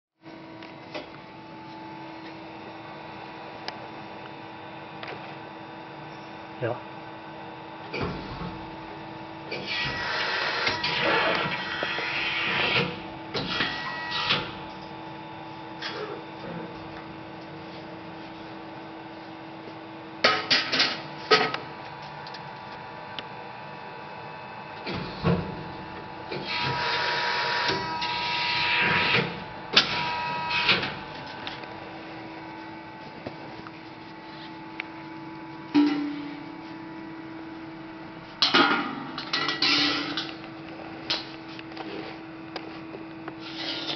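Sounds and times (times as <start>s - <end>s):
machine hum: 0.2s - 43.9s.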